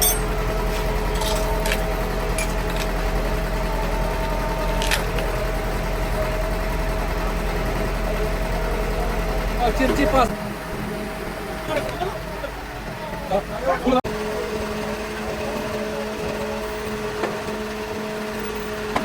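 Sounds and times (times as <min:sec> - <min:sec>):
motor running steadily: 0:00.0 - 0:19.0.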